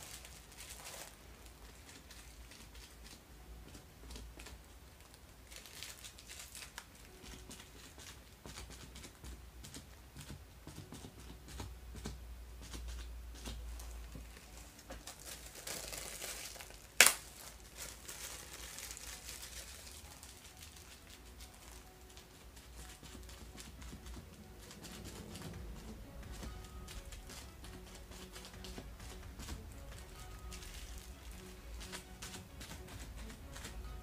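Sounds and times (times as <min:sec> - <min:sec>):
plastic crinkling and patting: 0:00.0 - 0:34.0.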